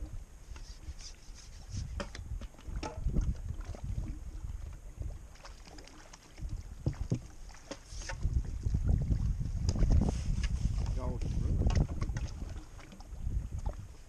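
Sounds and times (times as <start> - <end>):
wind rumbling on microphone: 0.0 - 5.4, 6.2 - 14.0
water lapping: 0.0 - 14.0.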